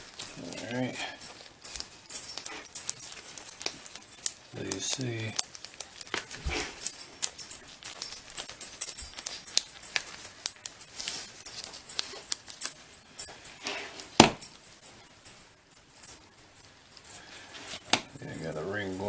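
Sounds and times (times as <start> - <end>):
light metallic jingling: 0.0 - 19.0.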